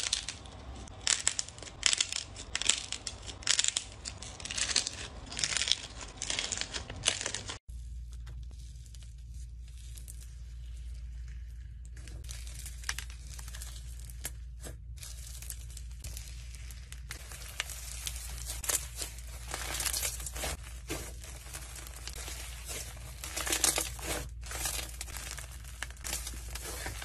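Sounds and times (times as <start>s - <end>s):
crunchy slime crackling by hand: 0.0s - 27.0s.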